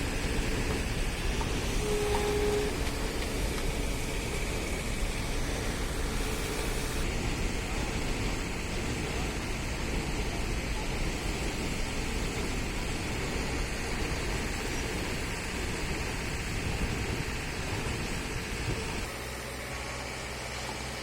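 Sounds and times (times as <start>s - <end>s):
vehicles rumbling and hissing: 0.0s - 21.0s.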